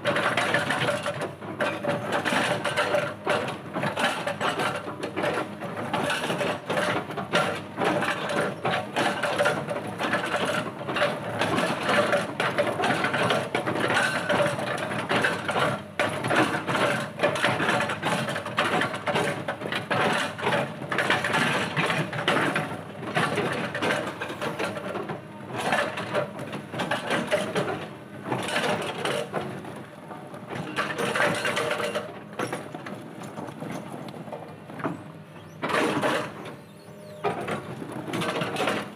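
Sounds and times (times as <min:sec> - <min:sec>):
hydraulic breaker pounding rock: 0:00.0 - 0:29.8, 0:30.4 - 0:38.9
excavator engine: 0:00.0 - 0:38.9.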